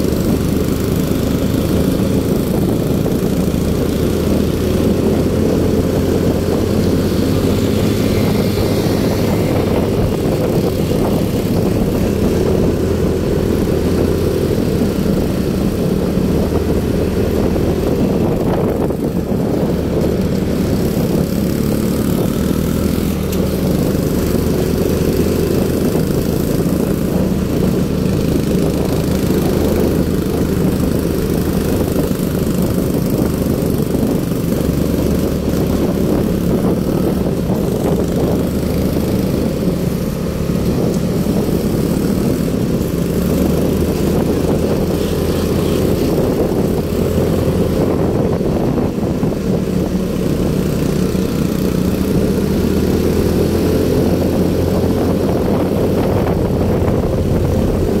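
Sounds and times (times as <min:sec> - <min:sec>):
small motorcycle engine running: 0:00.0 - 0:58.0.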